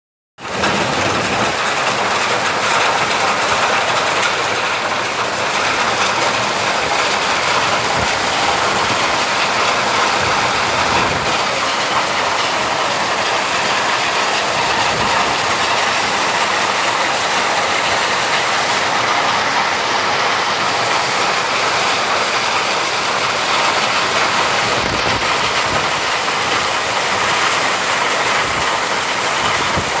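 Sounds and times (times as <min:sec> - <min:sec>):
heavy hail clattering on ground: 0:00.4 - 0:30.0.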